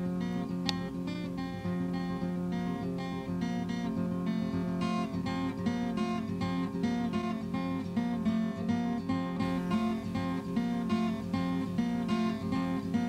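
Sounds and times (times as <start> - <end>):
guitar strummed in steady rhythm: 0.0 - 13.0.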